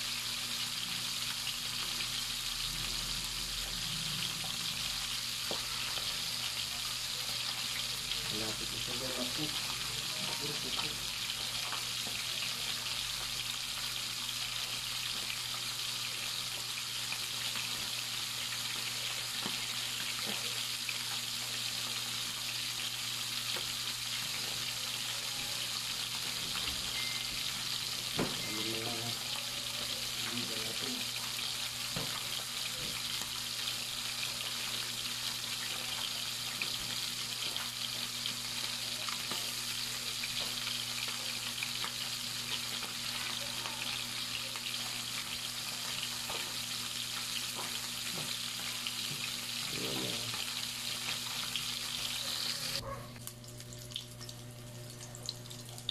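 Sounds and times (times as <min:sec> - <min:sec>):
fish frying in hot oil: 0:00.0 - 0:55.9.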